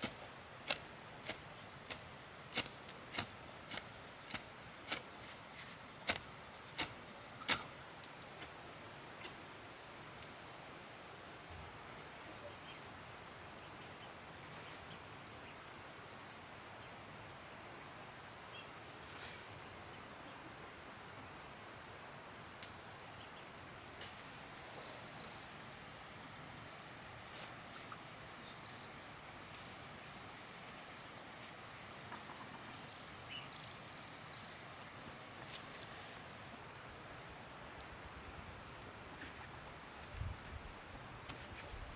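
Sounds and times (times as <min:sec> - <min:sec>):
high steady insect drone: 0:00.0 - 0:41.9.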